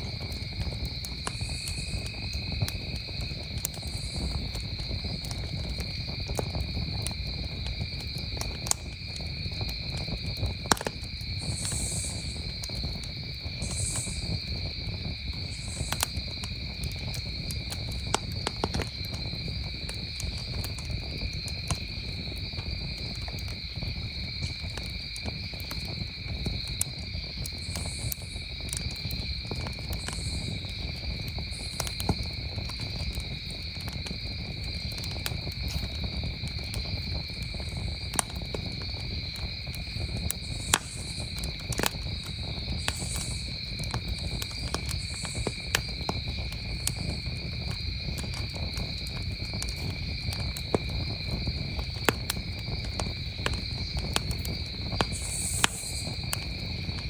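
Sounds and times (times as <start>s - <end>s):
campfire crackling and popping: 0.0s - 57.0s
crickets trilling: 0.0s - 57.0s.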